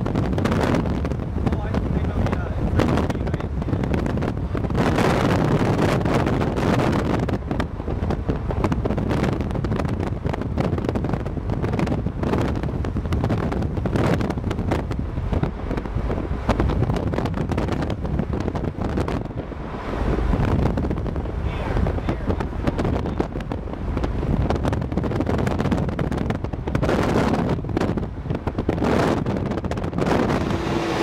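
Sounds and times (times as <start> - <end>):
vehicle road noise: 0.0 - 31.0
wind buffeting microphone: 0.0 - 31.0.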